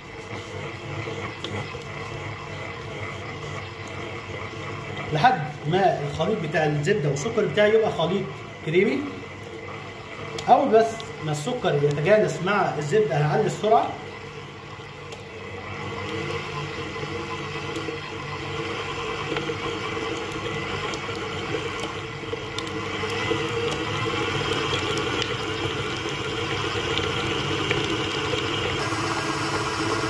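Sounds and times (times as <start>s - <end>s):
stand mixer motor running: 0.0s - 30.0s.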